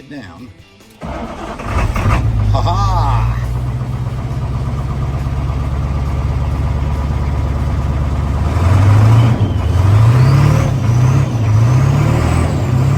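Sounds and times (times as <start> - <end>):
diesel truck engine revving: 1.0 - 12.9.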